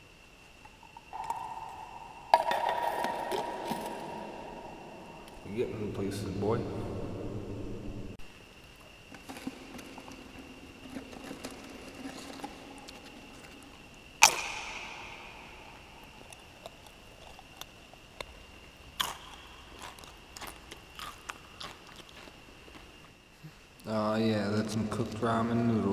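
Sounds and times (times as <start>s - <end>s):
faint high whine: 0.0s - 25.9s.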